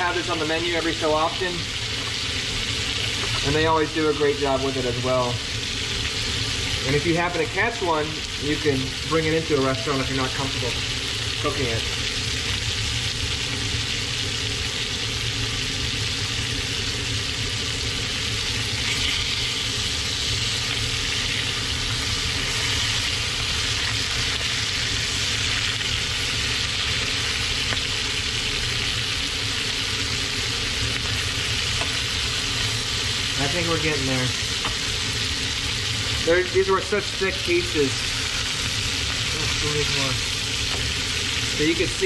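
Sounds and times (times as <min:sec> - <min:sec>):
fish sizzling in a frying pan: 0:00.0 - 0:42.0.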